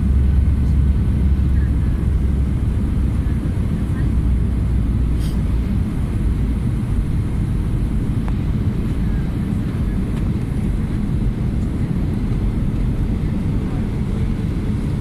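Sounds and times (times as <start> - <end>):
jet engine rumble and airflow: 0.0 - 15.0.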